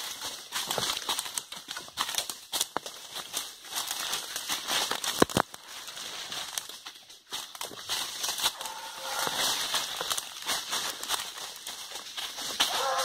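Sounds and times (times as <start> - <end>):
leaves and branches rustling: 0.0 - 13.0.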